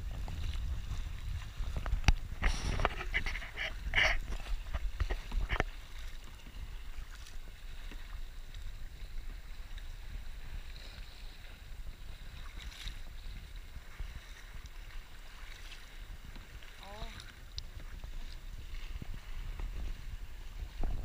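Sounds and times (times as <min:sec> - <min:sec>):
water lapping and splashing: 0:00.0 - 0:21.0
wind rumble on microphone: 0:00.0 - 0:21.0.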